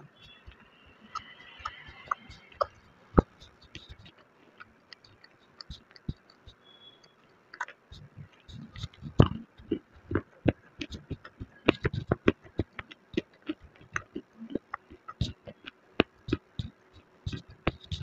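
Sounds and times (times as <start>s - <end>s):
chewing dry crunches: 1.2s - 18.0s.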